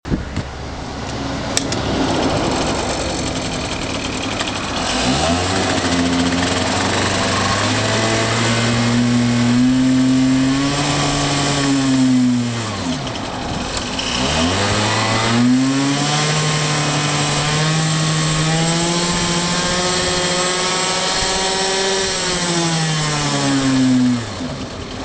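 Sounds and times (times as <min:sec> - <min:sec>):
scooter engine idling and revving: 0:00.0 - 0:25.0.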